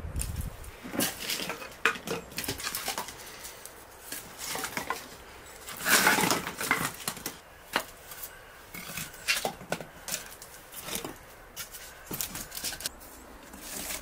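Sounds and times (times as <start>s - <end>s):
firewood sticks knocking together: 0.9s - 12.9s.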